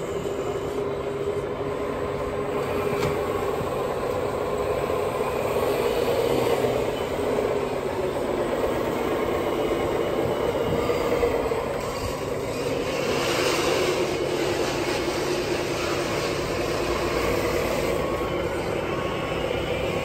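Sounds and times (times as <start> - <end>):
model loader motor whine: 0.0 - 20.0.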